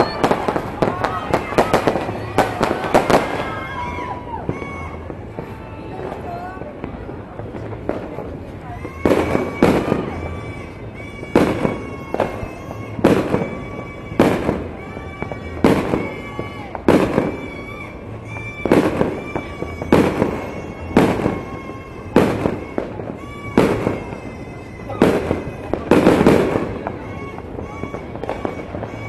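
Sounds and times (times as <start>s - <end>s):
fireworks banging: 0.0s - 29.0s.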